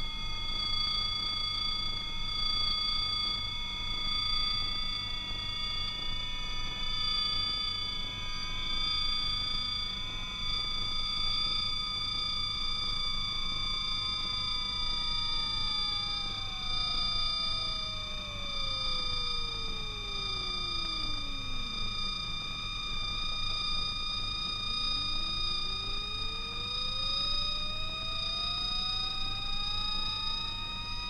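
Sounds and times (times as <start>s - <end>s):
steady high-pitched sine tones: 0.0s - 31.0s.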